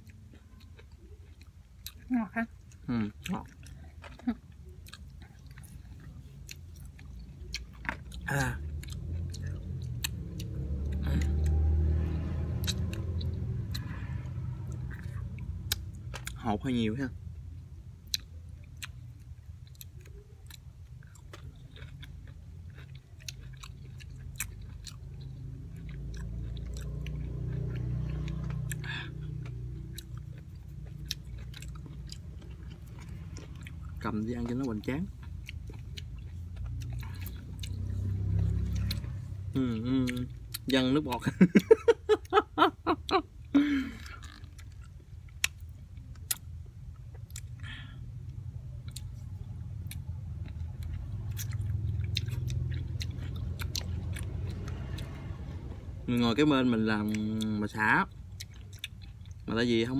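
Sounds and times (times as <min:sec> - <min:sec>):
wet chewing with crunches: 0:00.0 - 0:16.7, 0:18.0 - 0:59.9
low steady hum: 0:00.0 - 0:59.9.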